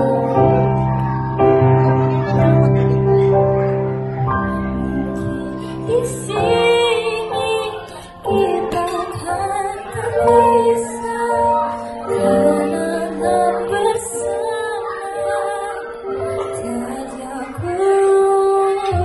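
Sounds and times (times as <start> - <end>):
girl singing into microphone: 0.0 - 1.3, 4.5 - 19.0
instrumental backing music: 0.0 - 19.0.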